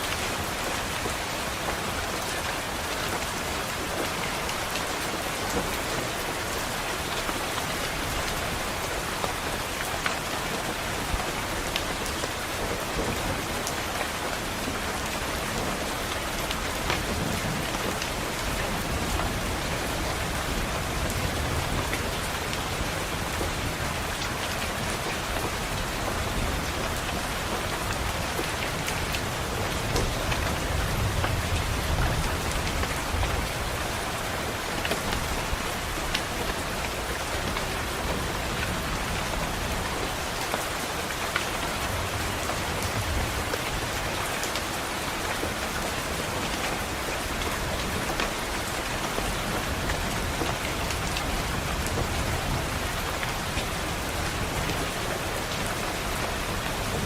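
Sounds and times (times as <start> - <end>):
rain pattering on window: 0.0 - 57.0.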